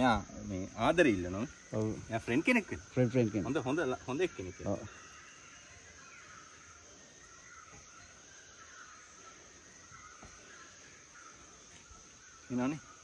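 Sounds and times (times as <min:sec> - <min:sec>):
insects droning: 0:00.0 - 0:13.0
soft wavering calls: 0:00.0 - 0:13.0.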